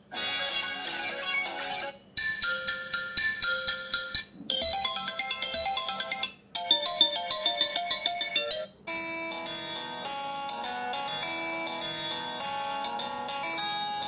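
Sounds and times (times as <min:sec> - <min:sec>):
phone ringtone melodies: 0:00.2 - 0:14.0.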